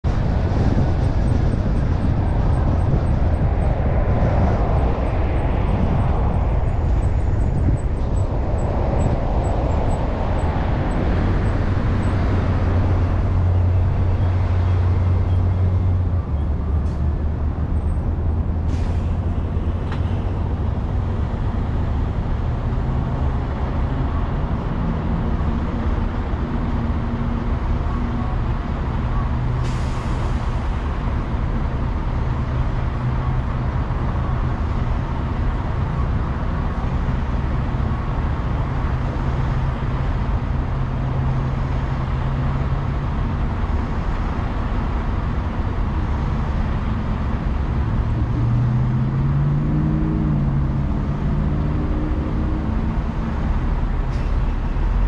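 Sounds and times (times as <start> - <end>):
car tyre and engine rumble: 0.0 - 55.0.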